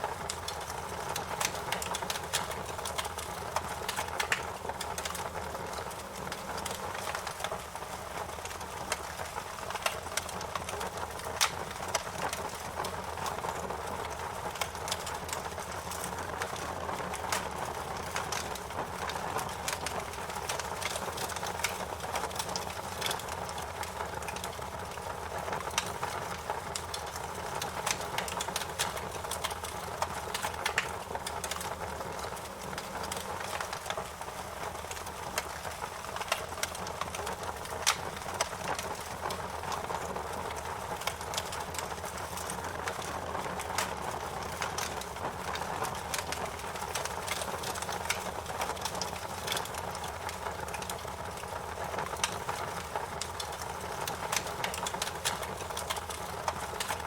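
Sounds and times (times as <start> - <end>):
fire popping and snapping: 0.0 - 57.0
wood fire crackling: 0.0 - 57.0.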